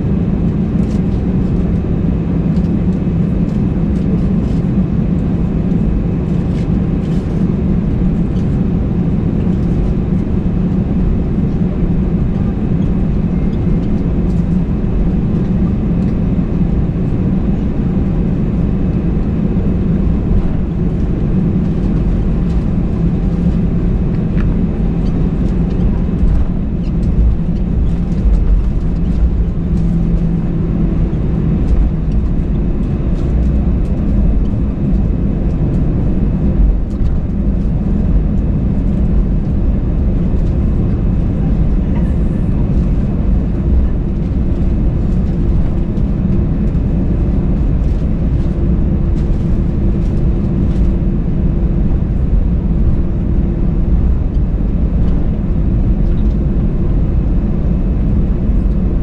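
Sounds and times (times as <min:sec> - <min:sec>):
aircraft engine rumble: 0:00.0 - 0:59.0
constant cabin hum: 0:00.0 - 0:59.0.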